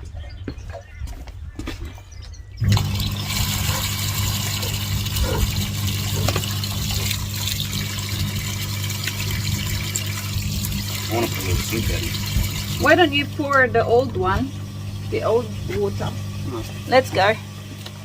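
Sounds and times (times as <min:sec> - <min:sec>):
water running from a tap: 0:02.6 - 0:18.0.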